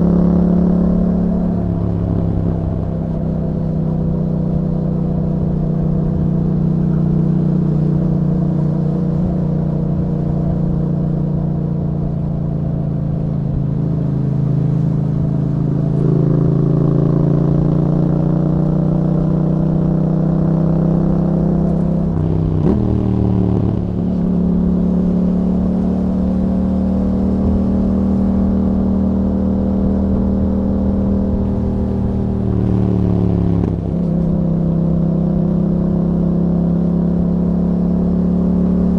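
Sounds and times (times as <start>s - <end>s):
motorcycle engine revving: 0.0s - 12.7s, 13.4s - 38.9s.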